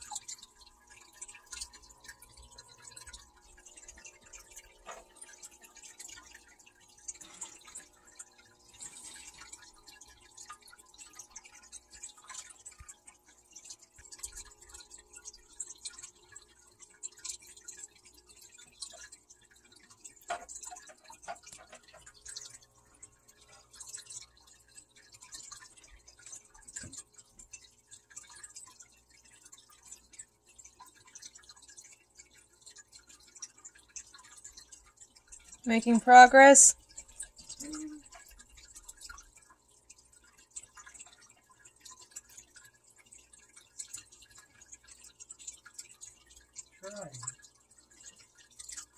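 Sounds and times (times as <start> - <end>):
water dripping and trickling: 0.0 - 48.9.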